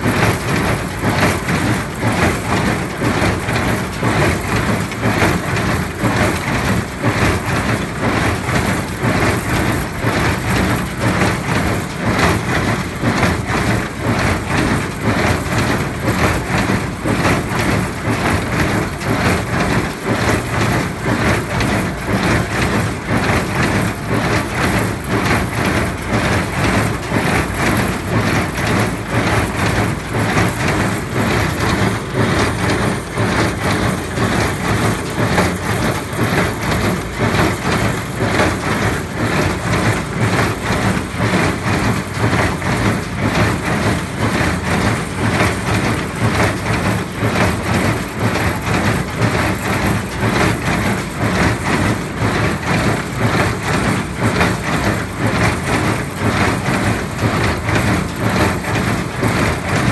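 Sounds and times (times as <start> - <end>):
baler rhythmic clatter: 0.0 - 59.9.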